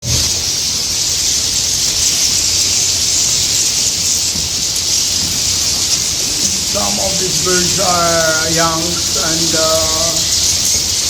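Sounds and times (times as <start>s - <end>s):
swiftlets chittering: 0.0s - 11.0s.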